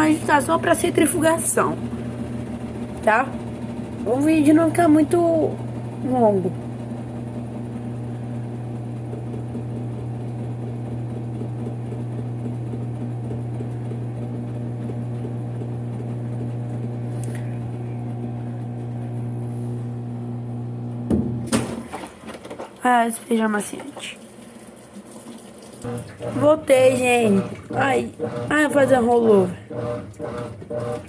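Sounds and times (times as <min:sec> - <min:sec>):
washing machine motor hum: 0:00.0 - 0:31.0.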